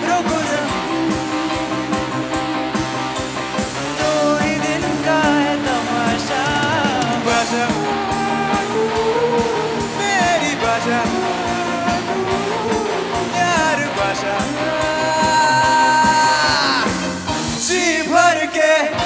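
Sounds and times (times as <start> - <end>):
choir and soloists singing: 0.0 - 3.2, 3.8 - 17.0, 17.6 - 19.0
steady drum beat: 0.0 - 18.0
rock band playing: 0.0 - 19.0.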